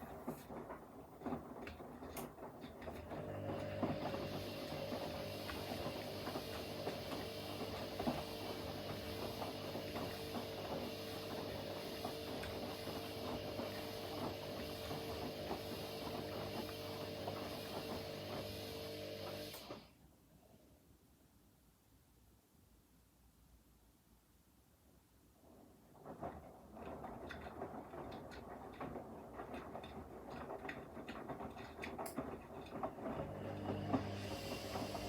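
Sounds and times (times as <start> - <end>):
washing machine motor hum: 0.0 - 20.0, 26.0 - 35.0.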